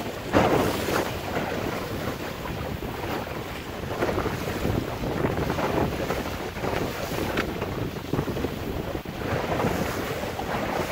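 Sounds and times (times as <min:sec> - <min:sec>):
bow wave rushing and slapping: 0:00.0 - 0:10.9
waves splashing against bow: 0:00.0 - 0:10.9
wind buffeting microphone: 0:00.0 - 0:10.9.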